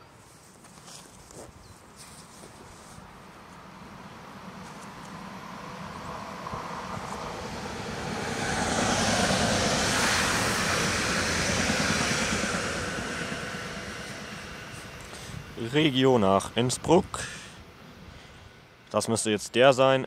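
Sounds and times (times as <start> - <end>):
electric train passing: 3.1 - 19.3.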